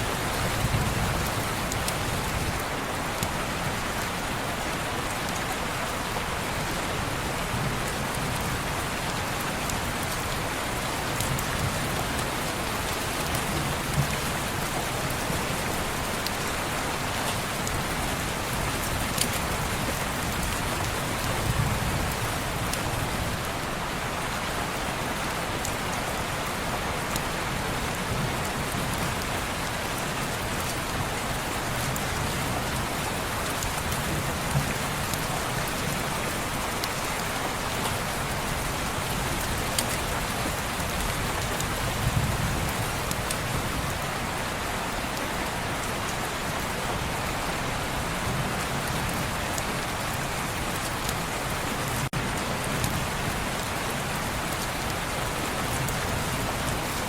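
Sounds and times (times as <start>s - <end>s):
heavy rain on window glass: 0.0s - 57.0s.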